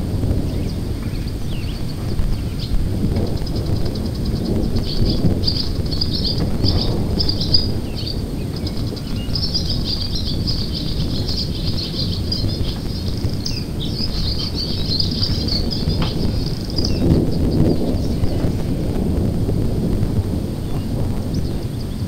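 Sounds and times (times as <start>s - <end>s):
steady low rumble: 0.0s - 22.0s
high chirping: 0.5s - 18.8s.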